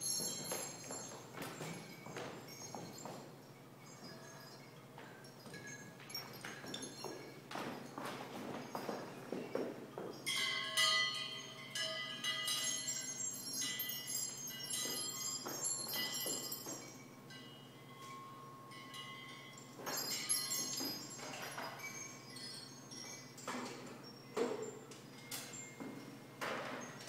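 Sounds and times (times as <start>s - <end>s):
metal chimes ringing: 0.0s - 27.0s.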